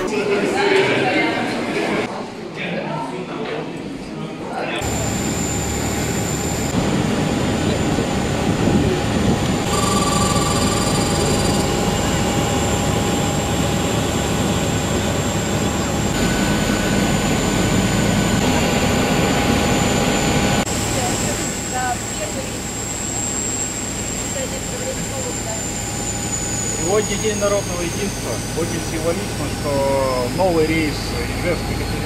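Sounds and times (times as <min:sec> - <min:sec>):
high-pitched whines: 0:04.8 - 0:32.0
jet airliner rushing roar: 0:04.8 - 0:32.0.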